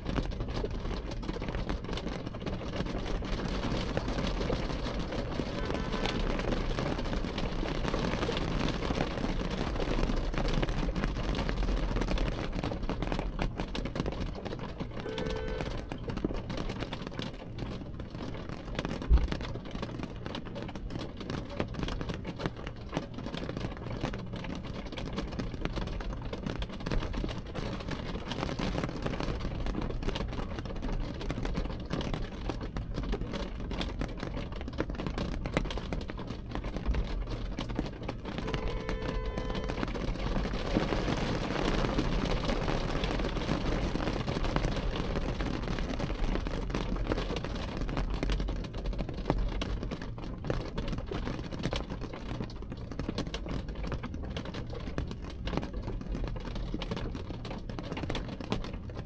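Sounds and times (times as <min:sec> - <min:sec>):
rain pattering on window glass: 0:00.0 - 0:59.0.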